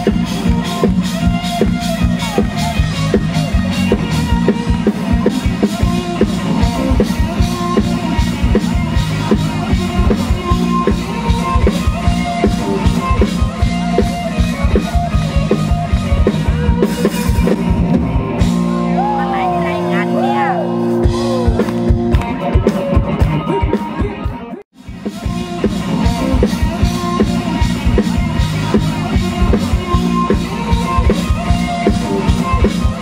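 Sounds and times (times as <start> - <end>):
bass guitar: 0.0 - 33.0
drum kit beat: 0.0 - 33.0
electric guitars: 0.0 - 33.0.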